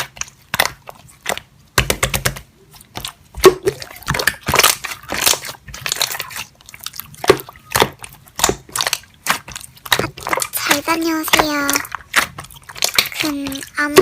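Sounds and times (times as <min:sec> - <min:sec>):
slime crackling and squishing: 0:00.0 - 0:14.0.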